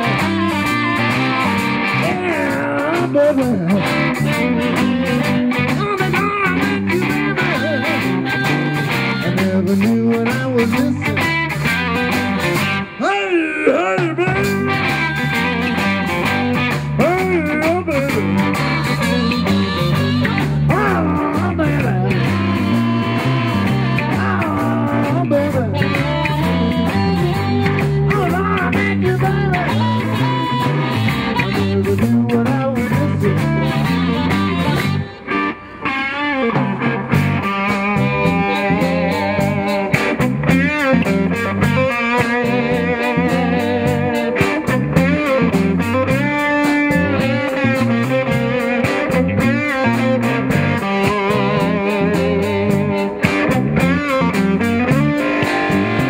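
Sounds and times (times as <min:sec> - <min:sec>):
electric blues band playing: 0:00.0 - 0:56.0.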